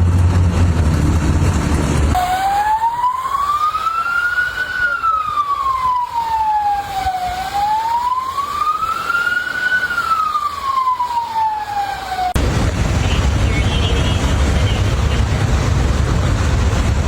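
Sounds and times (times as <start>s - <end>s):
emergency siren wailing: 1.2s - 17.0s.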